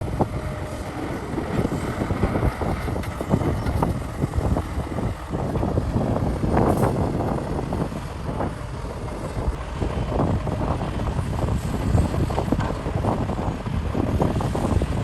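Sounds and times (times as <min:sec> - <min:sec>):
excavator engine running: 0:00.0 - 0:15.0
wind buffeting microphone: 0:00.0 - 0:15.0.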